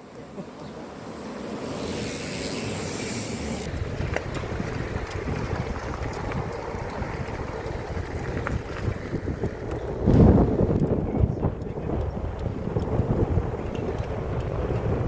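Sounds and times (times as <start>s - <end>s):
wind buffeting microphone: 1.8s - 15.0s.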